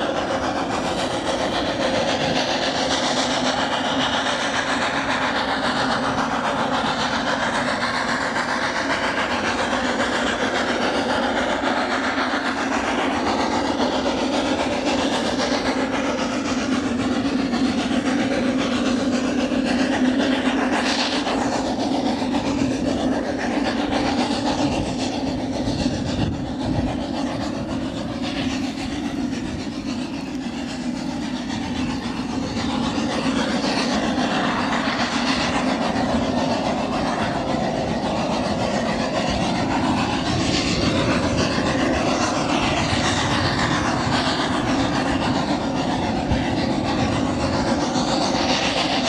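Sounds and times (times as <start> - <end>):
steam locomotive exhaust: 0.0 - 49.0.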